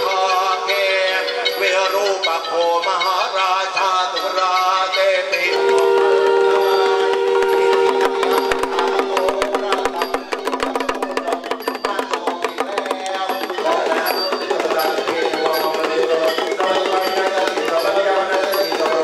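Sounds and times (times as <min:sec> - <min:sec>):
fast percussion ticking: 0:00.0 - 0:19.0
man chanting into microphone: 0:00.0 - 0:19.0.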